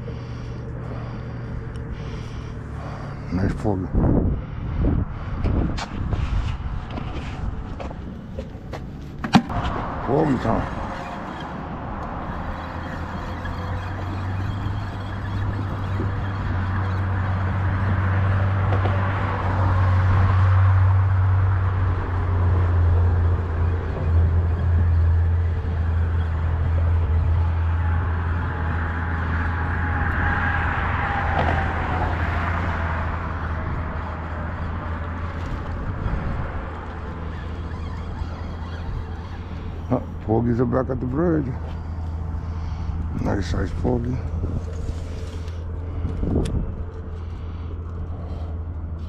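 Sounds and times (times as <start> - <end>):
road traffic rumble: 0.0 - 49.0
vehicles passing: 0.0 - 49.0.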